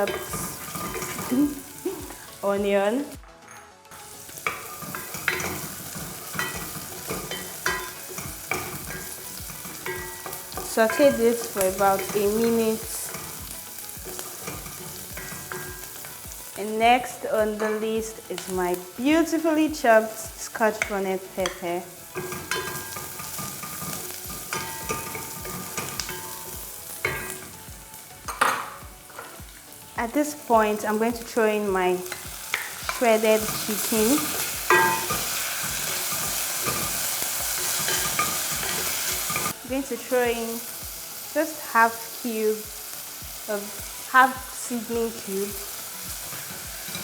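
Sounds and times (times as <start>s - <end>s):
onion sizzling in oil: 0.0s - 3.2s, 3.9s - 47.0s.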